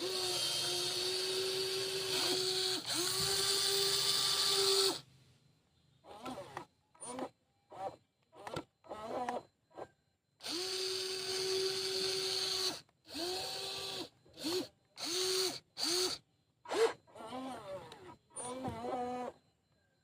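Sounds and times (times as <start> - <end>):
toy excavator motors whirring: 0.0 - 5.1, 6.0 - 19.8.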